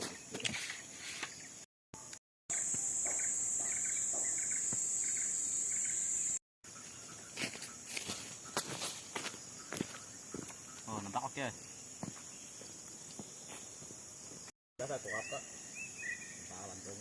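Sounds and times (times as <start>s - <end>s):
forest background: 0.0s - 17.0s
soft insect chirp: 0.0s - 17.0s
insects droning high-pitched: 1.4s - 17.0s.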